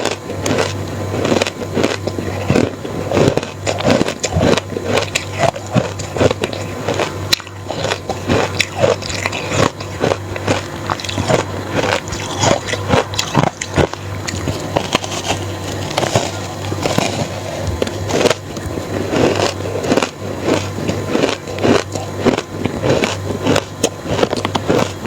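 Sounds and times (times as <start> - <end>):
person chewing crushed ice: 0.0 - 25.0.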